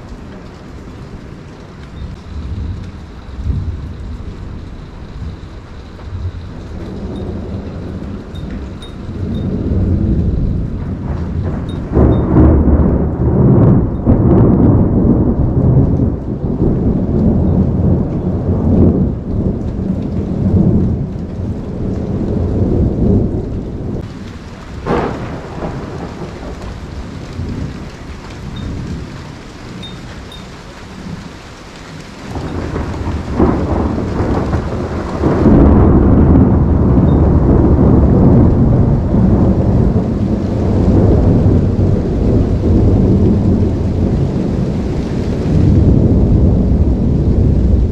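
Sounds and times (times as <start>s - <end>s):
steady rain: 0.0s - 47.9s
thunder rumbling: 0.0s - 47.9s
thunder crack: 6.1s - 29.8s, 32.3s - 47.9s.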